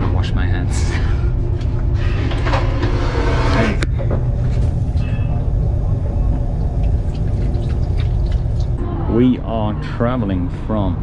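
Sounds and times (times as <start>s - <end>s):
train rumble inside carriage: 0.0s - 8.8s.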